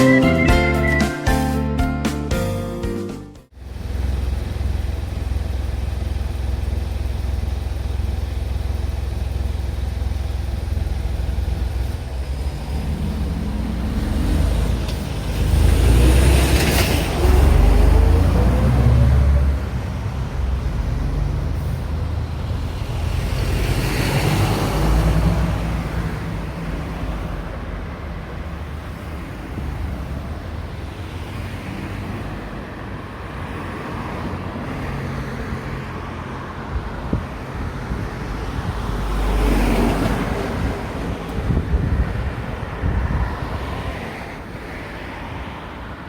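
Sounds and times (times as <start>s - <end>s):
motor vehicles passing: 0.0s - 2.0s, 10.8s - 46.0s.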